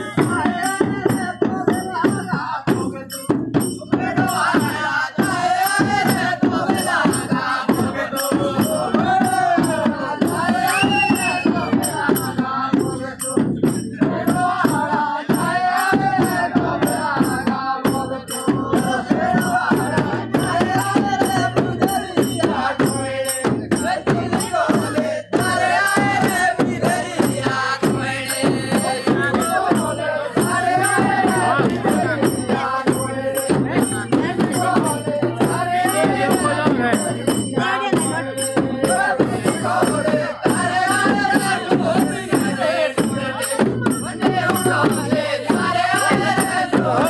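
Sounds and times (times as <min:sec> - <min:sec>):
hand drums beating: 0:00.0 - 0:47.0
men singing together: 0:00.0 - 0:47.0.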